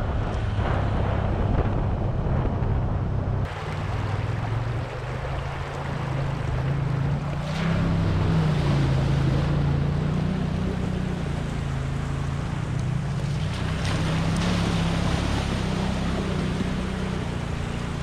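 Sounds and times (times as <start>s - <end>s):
vehicle engines running: 0.0s - 18.0s
water splashing from tyres: 3.4s - 18.0s.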